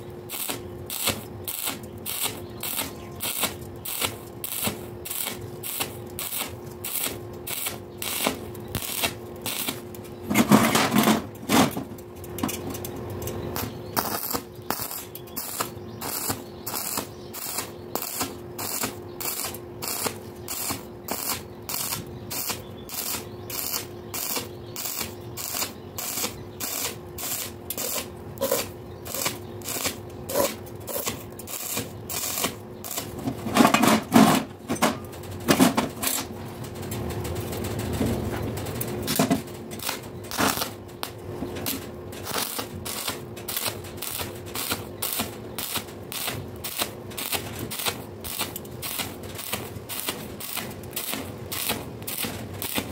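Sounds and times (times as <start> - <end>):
welding arc crackling: 0.0 - 33.4, 38.7 - 52.9.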